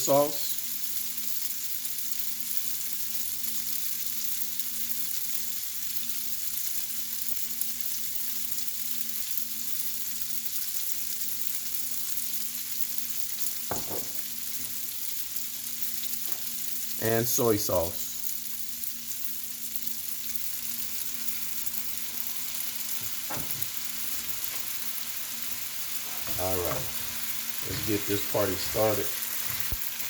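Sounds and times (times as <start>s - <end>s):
noodles sizzling in a pan: 0.0s - 30.0s.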